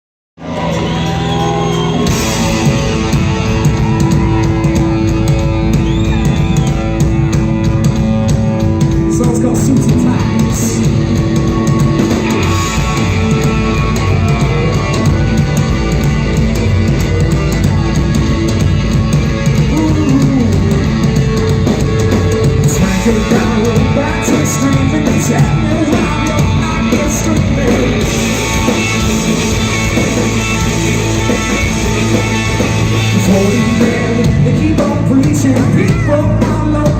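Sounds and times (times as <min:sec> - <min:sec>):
rock band playing: 0:00.4 - 0:36.9.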